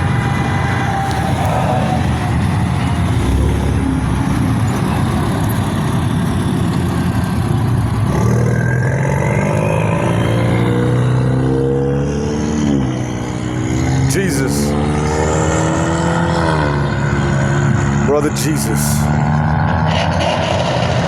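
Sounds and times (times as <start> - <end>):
car engine and exhaust: 0.0 - 21.0
car engine revving up: 0.0 - 21.0.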